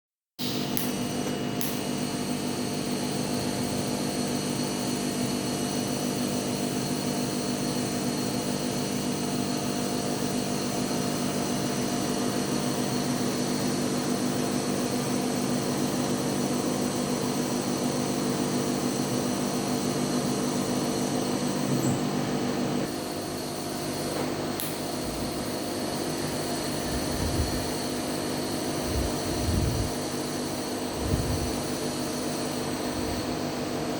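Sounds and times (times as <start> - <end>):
welding buzzing hum: 0.4 - 33.9.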